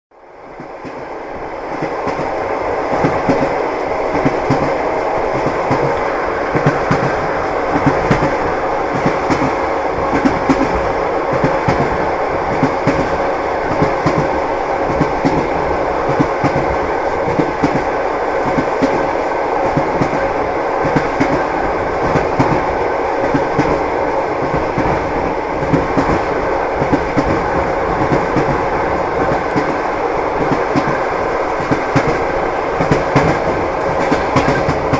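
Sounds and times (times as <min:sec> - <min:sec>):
train rolling rumble: 0:00.1 - 0:34.9
train wheels clacking: 0:01.7 - 0:34.9.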